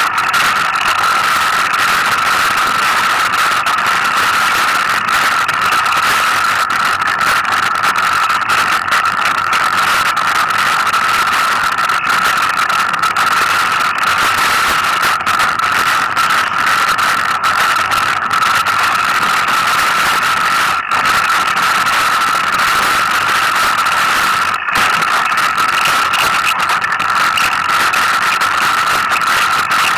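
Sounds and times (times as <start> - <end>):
bike tyre noise: 0.0 - 29.9
high-pitched whine: 0.0 - 29.9.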